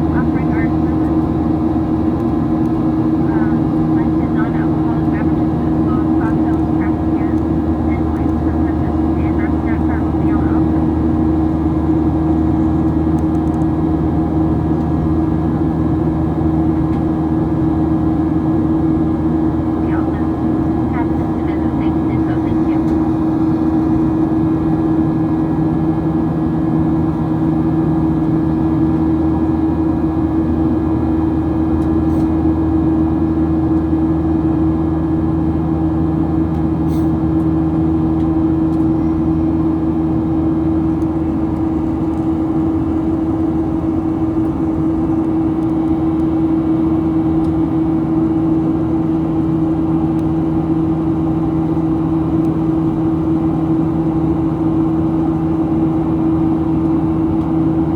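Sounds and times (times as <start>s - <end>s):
airliner cabin drone: 0.0s - 57.9s.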